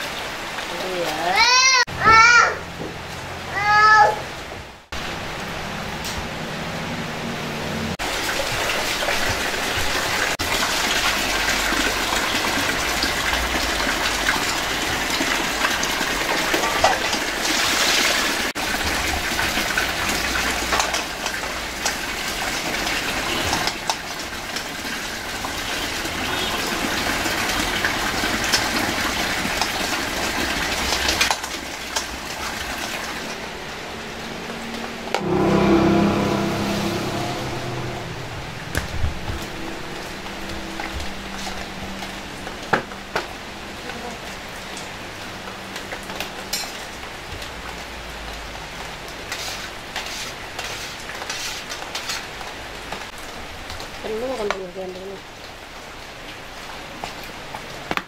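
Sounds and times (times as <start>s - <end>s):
water rushing: 0.0s - 49.9s.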